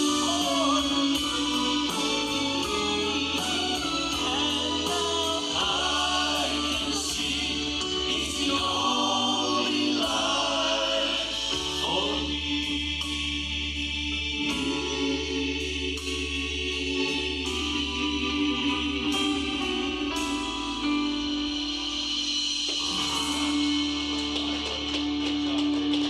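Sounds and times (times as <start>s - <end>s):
gospel choir singing in harmony: 0.0s - 26.0s
low accompaniment notes: 0.0s - 26.0s.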